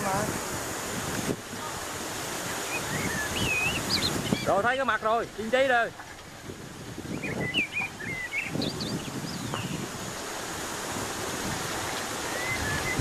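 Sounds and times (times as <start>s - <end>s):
stream water rushing over rocks: 0.0s - 13.0s
wind buffeting microphone: 0.0s - 13.0s.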